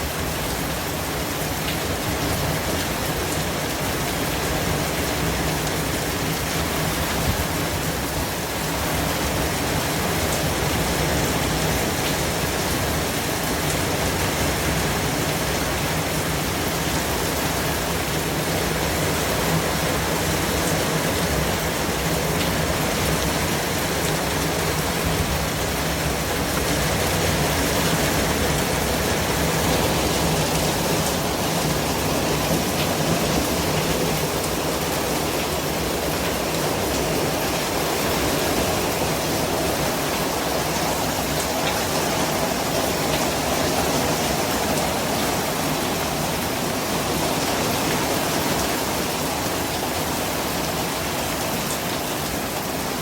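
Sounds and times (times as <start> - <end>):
steady hiss like rainfall: 0.0 - 53.0.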